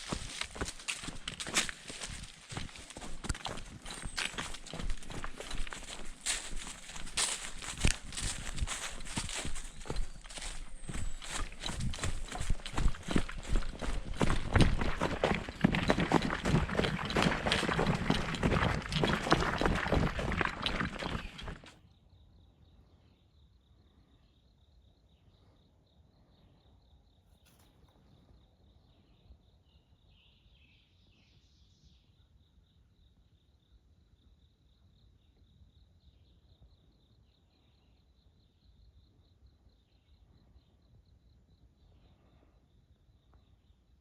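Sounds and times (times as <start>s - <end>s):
faint insect calls: 0.0s - 17.3s, 21.0s - 44.0s.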